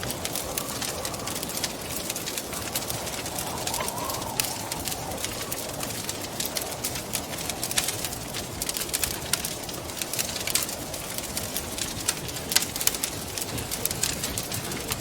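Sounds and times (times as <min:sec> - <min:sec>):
rushing wind: 0:00.0 - 0:15.0
wood fire crackling: 0:00.0 - 0:15.0.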